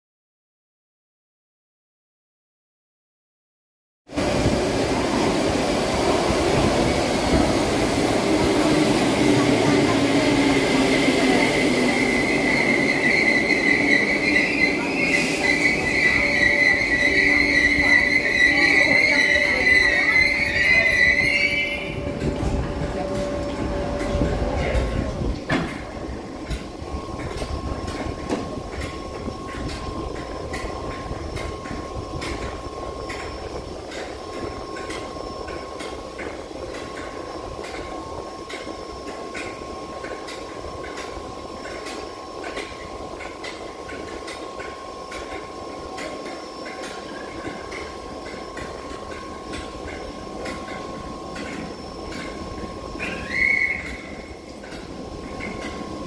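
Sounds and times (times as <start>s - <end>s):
electric train hum: 4.1s - 56.0s.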